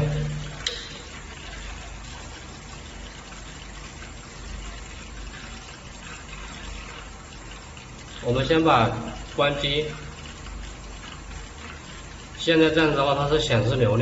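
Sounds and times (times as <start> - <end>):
water flowing through heater: 0.0 - 14.0.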